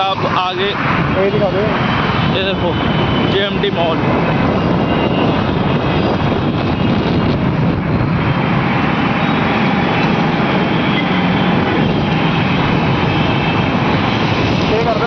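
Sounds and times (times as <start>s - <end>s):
road noise from motorbike: 0.0s - 15.0s
wind rushing: 0.0s - 15.0s.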